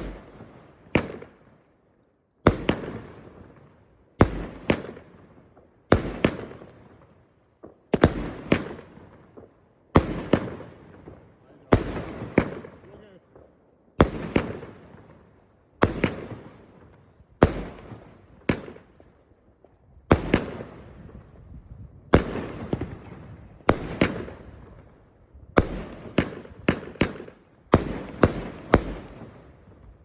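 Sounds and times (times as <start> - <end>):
fireworks bangs with crackle: 0.0 - 1.4, 2.5 - 19.0, 20.1 - 21.5, 22.1 - 24.9, 25.6 - 30.0.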